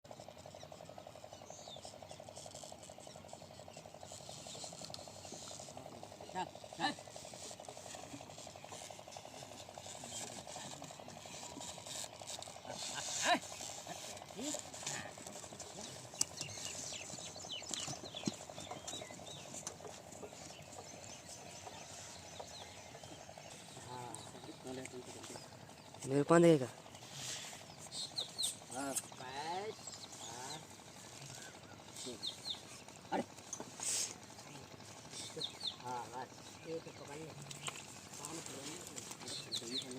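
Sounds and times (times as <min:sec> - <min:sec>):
small engine running fast: 0:00.0 - 0:39.9
birds chirping: 0:00.1 - 0:39.9.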